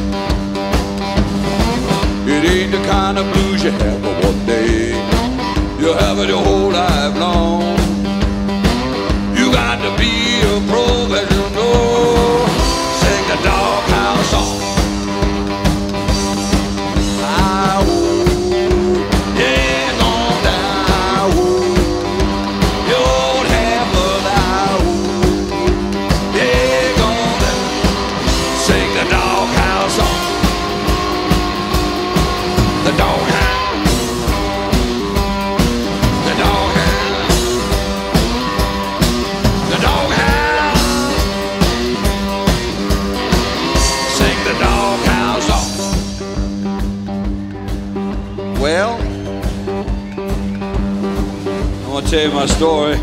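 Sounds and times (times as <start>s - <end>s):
drum kit beat: 0.0s - 53.0s
electric guitar blues boogie: 0.0s - 53.0s.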